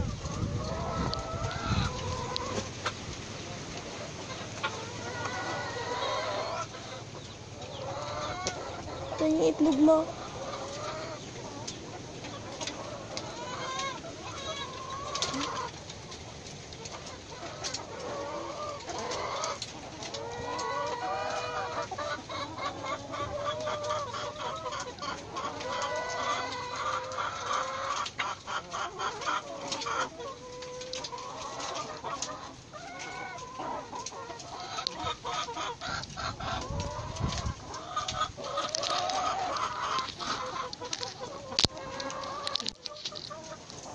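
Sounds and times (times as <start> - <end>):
hens clucking and cackling: 0.0 - 43.9.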